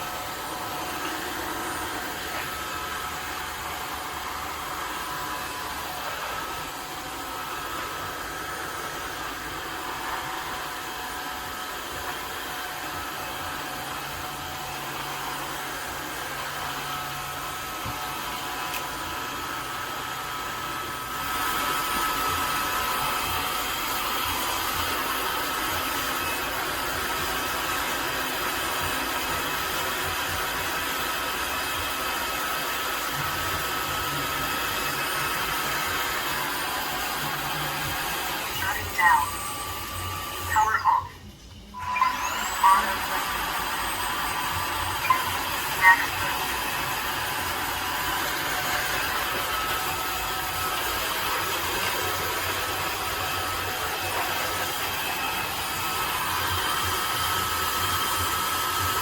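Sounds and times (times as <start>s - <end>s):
vacuum motor whirring: 0.0s - 59.0s.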